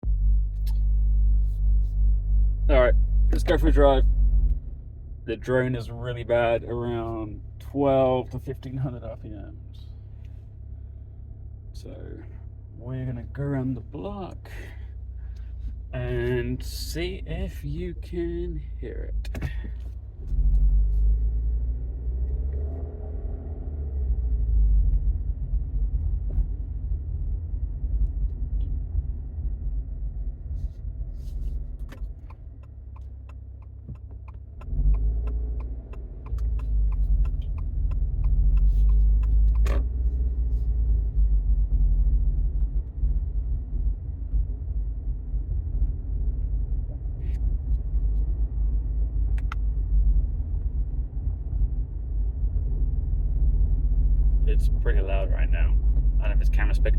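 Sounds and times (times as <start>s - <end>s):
car exhaust drone: 0.0s - 56.9s.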